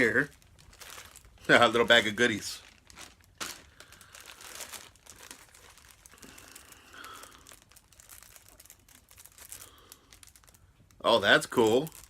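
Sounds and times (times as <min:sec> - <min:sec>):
bag crinkling and rustling: 0:00.0 - 0:12.0.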